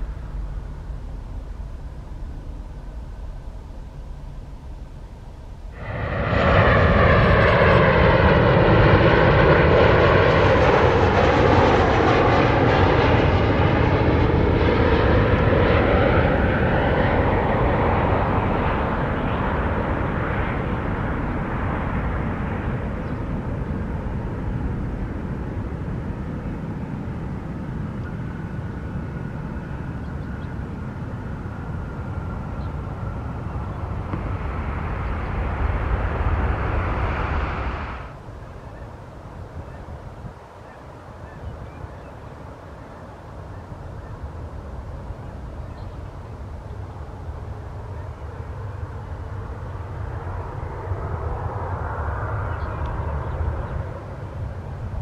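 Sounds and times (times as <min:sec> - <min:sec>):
jet airliner passing overhead: 0:00.0 - 0:55.0.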